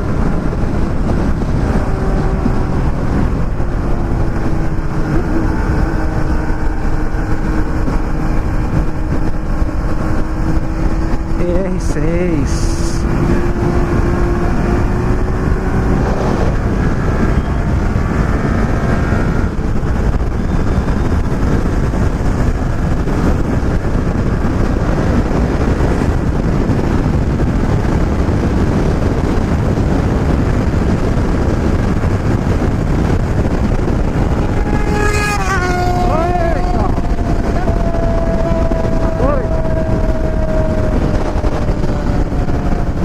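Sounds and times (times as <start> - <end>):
motorcycle engine running: 0.0 - 43.0
wind rush on microphone: 0.0 - 43.0.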